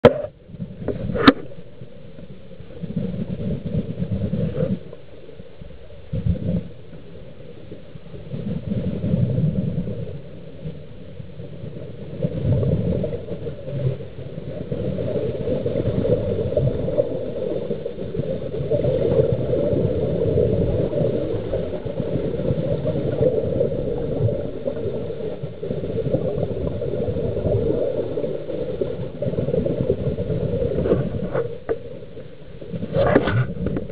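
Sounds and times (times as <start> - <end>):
underwater exhaled bubbles: 0.0 - 33.9.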